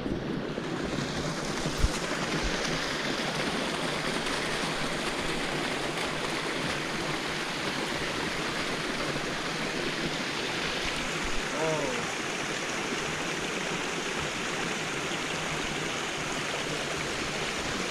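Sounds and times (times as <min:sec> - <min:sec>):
stream rushing over rocks: 0:00.0 - 0:17.9.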